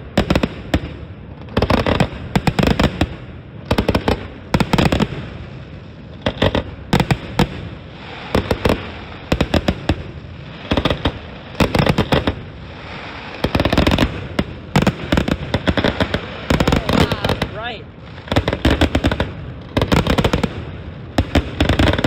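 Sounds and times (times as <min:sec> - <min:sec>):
fireworks cracking: 0:00.0 - 0:22.0.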